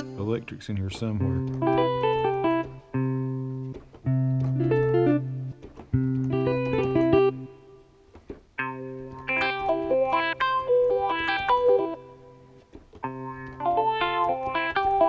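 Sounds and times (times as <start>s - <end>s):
keyboard guitar patch notes: 0.0s - 7.8s, 8.6s - 15.0s.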